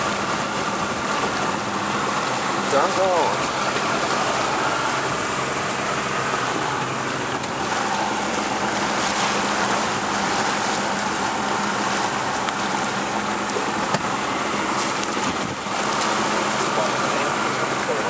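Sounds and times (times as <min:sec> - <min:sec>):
water washing around boat: 0:00.0 - 0:18.0
wind: 0:00.0 - 0:18.0.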